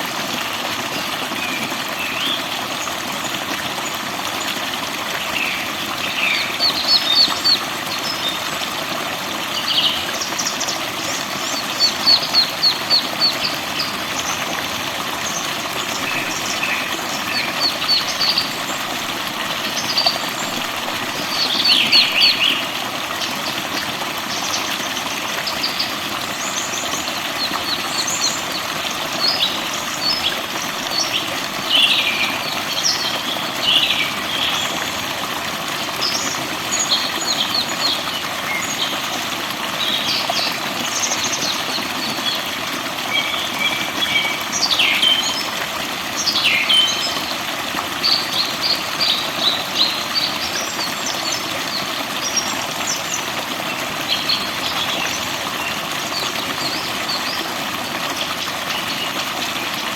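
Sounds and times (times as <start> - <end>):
running water rushing: 0.0 - 59.9.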